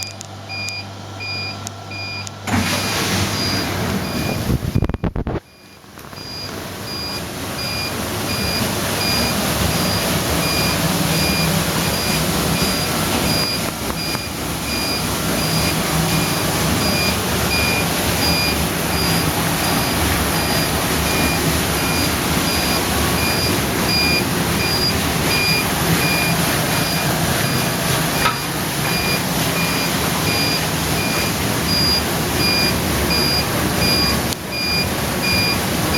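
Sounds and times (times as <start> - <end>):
dishwasher water spraying: 2.5 - 5.0, 5.6 - 35.9
short electronic beep: 3.4 - 35.6.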